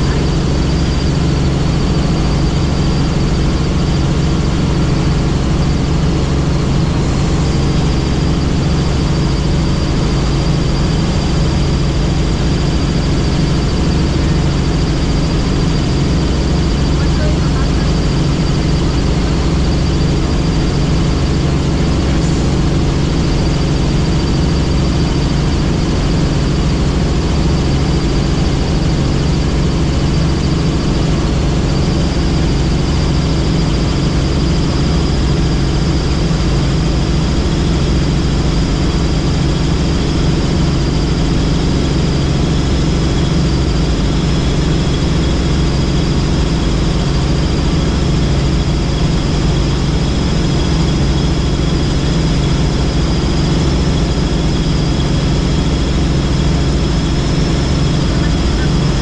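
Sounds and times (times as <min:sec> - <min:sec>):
helicopter engine and rotor drone: 0:00.0 - 0:59.0
high turbine whine: 0:00.0 - 0:59.0.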